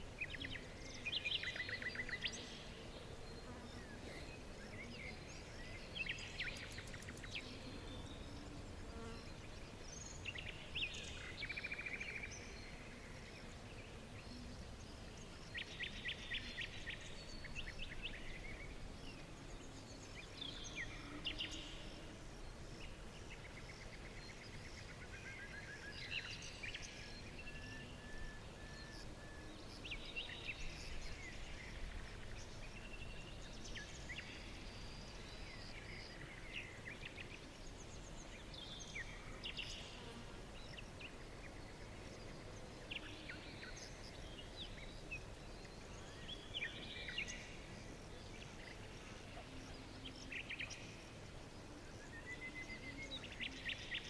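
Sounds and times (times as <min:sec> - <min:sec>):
soft background hiss: 0:00.0 - 0:54.0
songbirds chirping and singing: 0:00.0 - 0:54.0.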